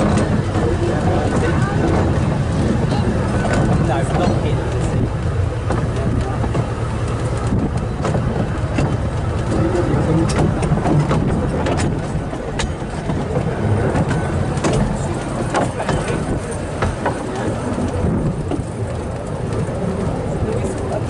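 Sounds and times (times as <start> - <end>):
running gear clicks and knocks: 0.0 - 21.0
train wheels rumbling on rails: 0.0 - 21.0.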